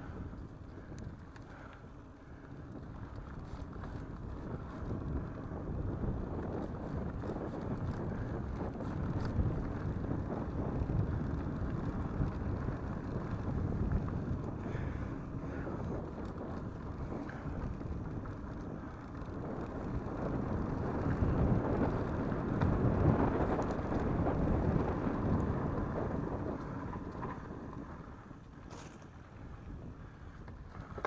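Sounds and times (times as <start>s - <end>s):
bike tyres rumbling on dirt: 0.0s - 31.0s
wind buffeting microphone: 0.0s - 31.0s.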